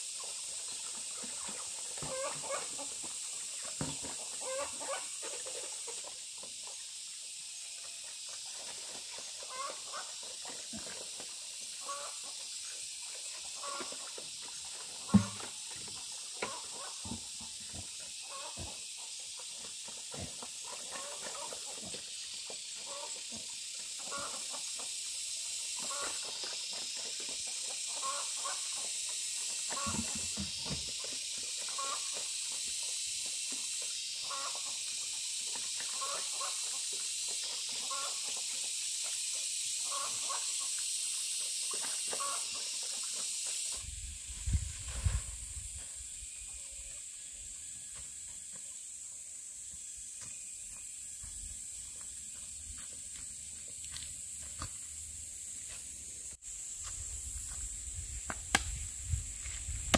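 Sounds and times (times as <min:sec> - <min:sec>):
steady high hiss: 0:02.4 - 0:59.9.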